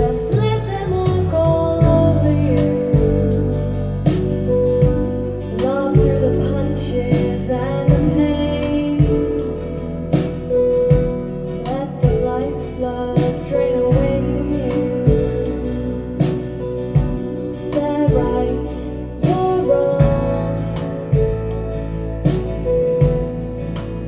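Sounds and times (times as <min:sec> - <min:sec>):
recorded music over loudspeakers: 0:00.0 - 0:24.0.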